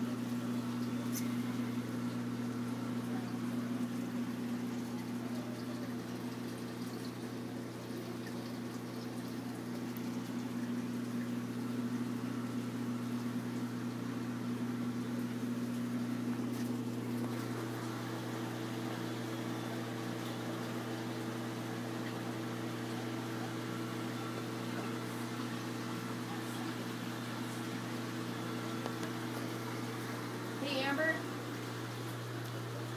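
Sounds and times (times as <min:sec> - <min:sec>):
aquarium pumps humming: 0:00.0 - 0:32.9
faint moving water: 0:00.0 - 0:32.9.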